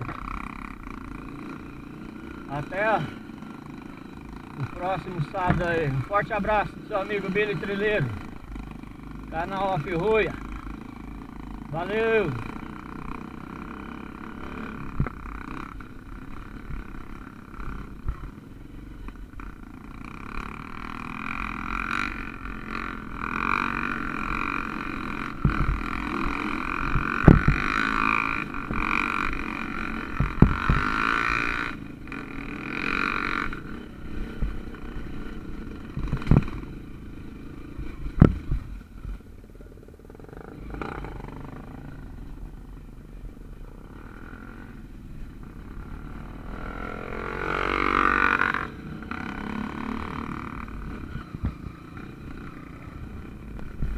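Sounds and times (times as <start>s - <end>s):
off-road motorcycle engine running: 0.0s - 53.9s.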